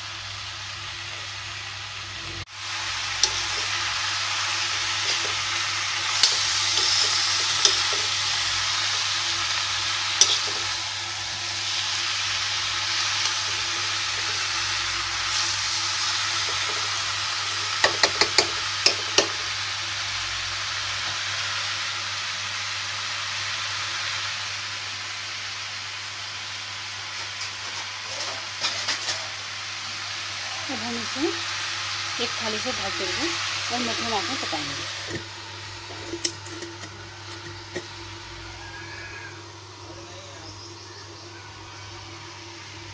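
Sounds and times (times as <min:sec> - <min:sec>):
pumpkin sizzling in a pan: 0:00.0 - 0:42.9.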